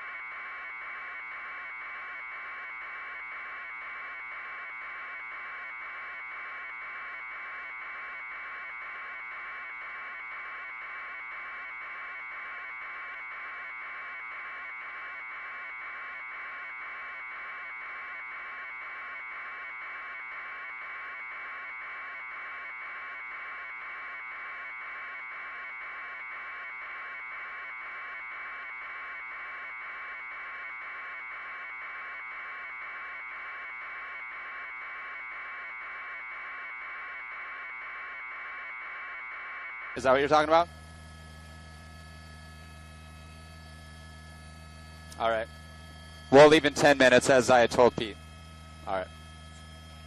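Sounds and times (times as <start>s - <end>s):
fluttering electronic buzz: 0.0s - 50.0s.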